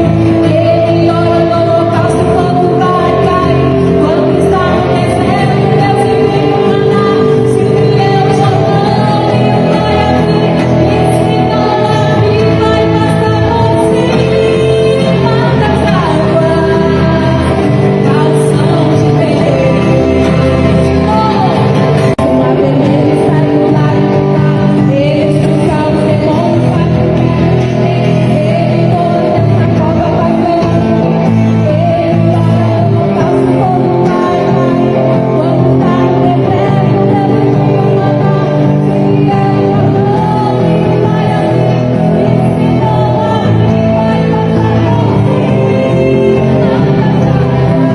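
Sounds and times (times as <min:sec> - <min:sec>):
band playing loud music: 0:00.0 - 0:47.9
bass: 0:00.0 - 0:47.9
guitar: 0:00.0 - 0:47.9
person singing: 0:00.0 - 0:47.9.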